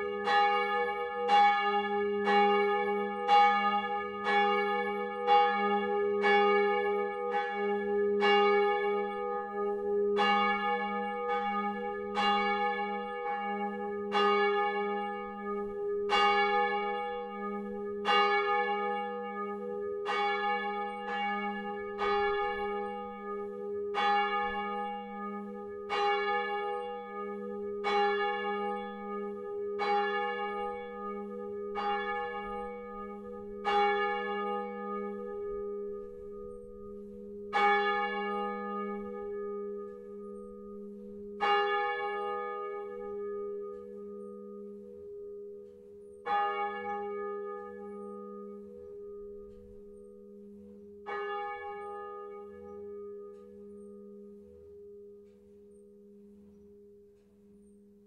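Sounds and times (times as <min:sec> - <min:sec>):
church bell ringing: 0:00.0 - 0:58.0.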